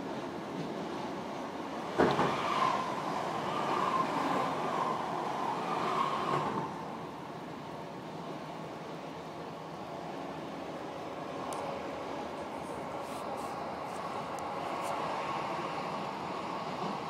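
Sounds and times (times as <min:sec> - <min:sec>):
train rolling noise: 0:00.0 - 0:17.0
train whine: 0:00.0 - 0:17.0.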